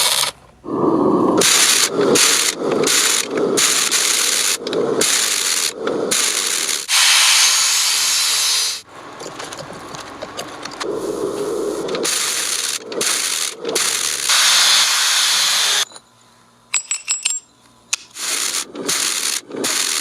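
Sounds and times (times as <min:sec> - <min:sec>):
rough abrasive rubbing: 0:00.0 - 0:15.8, 0:18.2 - 0:20.0.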